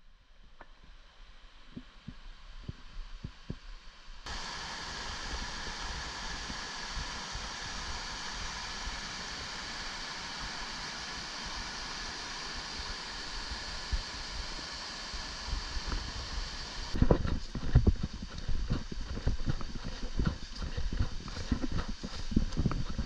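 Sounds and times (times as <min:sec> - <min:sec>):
creek rushing over boulders: 0:04.3 - 0:23.0.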